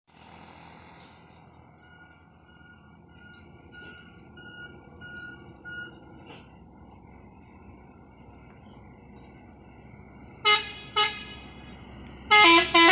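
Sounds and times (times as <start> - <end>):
truck traffic passing: 0.1 - 12.9.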